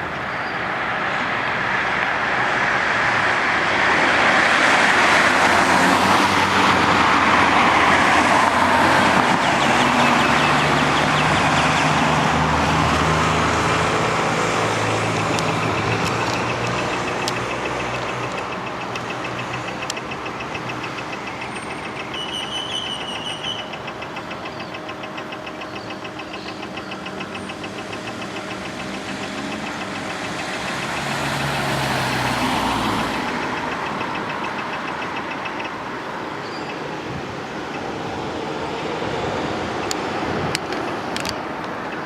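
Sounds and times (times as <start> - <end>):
vehicle engine idling: 5.8 - 42.0
rapid even ticking: 6.0 - 42.0.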